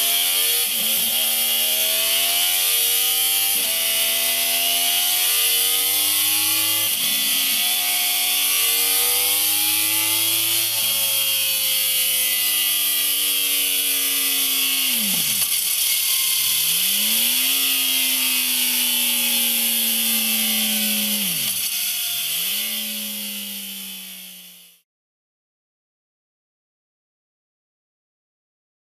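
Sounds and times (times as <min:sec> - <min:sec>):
motorcycle engine revving: 0:00.0 - 0:24.8.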